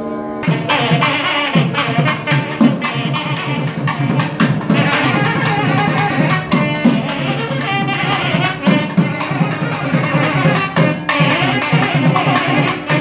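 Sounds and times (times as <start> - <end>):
held double-reed note: 0.0 - 13.0.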